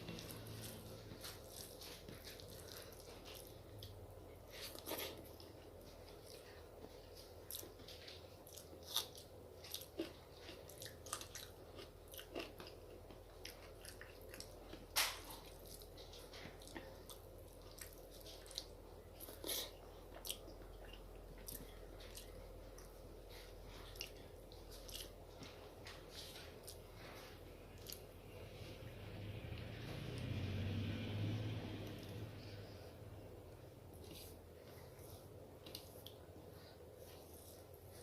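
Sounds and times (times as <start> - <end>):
person chewing food: 0.0 - 28.8, 33.9 - 38.0.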